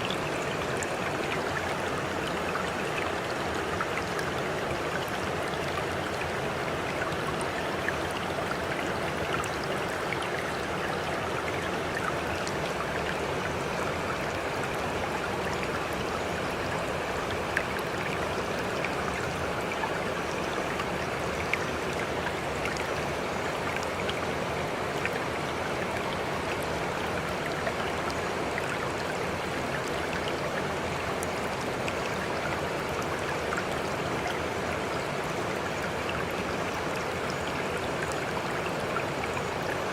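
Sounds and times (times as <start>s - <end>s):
water splashes and drips: 0.0s - 39.9s.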